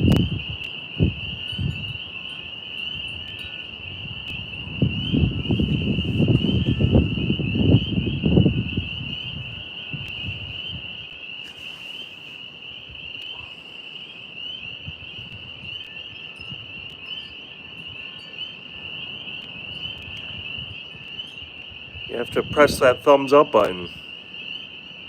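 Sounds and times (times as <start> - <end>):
wind rumble on microphone: 0.0 - 13.7, 14.4 - 24.5
crickets trilling: 0.0 - 25.0.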